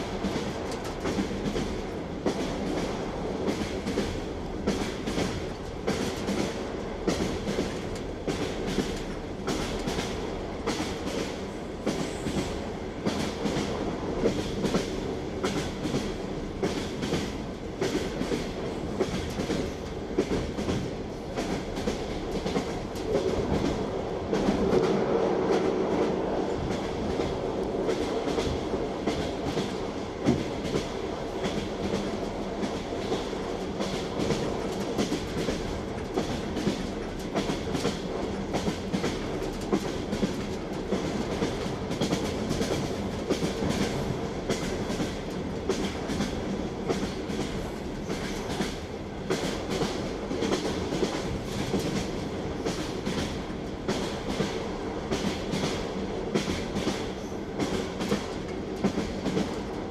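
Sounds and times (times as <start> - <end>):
train rumble: 0.0 - 59.9
train wheels clacking over rail joints: 0.0 - 59.9.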